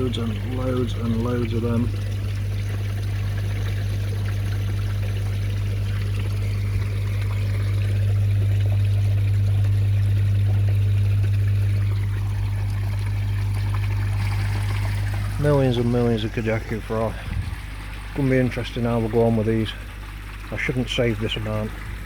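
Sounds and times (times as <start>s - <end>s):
low electrical hum: 0.0s - 22.0s
water trickling and pouring: 0.0s - 22.0s.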